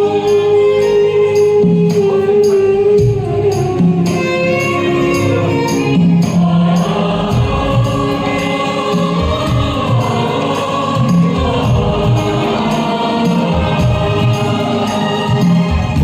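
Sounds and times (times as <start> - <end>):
karaoke backing track with beat: 0.0 - 16.0.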